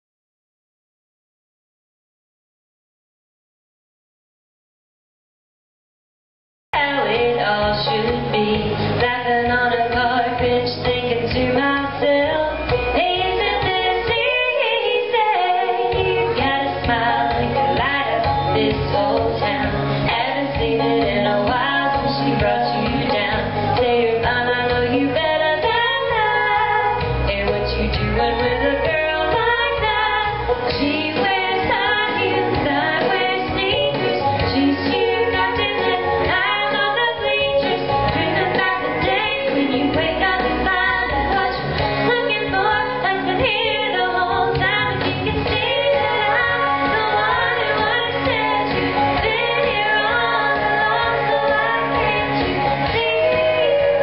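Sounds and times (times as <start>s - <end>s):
instrumental accompaniment: 6.8s - 54.0s
woman singing country song: 6.8s - 54.0s.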